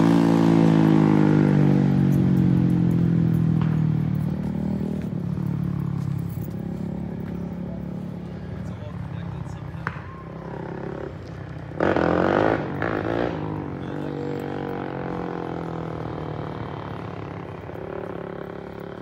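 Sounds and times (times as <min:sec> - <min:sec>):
engine revving: 0:00.0 - 0:08.1, 0:10.3 - 0:19.0.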